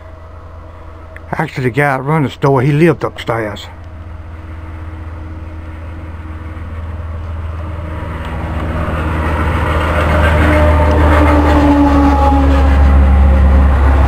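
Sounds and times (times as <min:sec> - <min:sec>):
vehicle approaching on road: 0:00.0 - 0:14.0.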